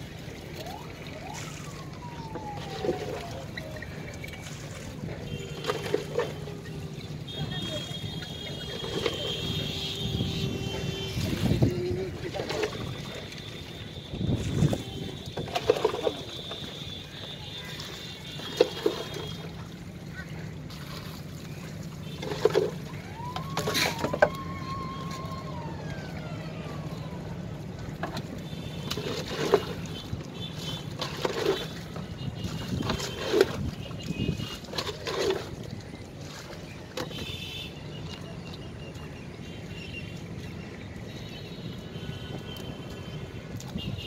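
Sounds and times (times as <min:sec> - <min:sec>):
water sloshing and splashing: 0:00.0 - 0:44.0.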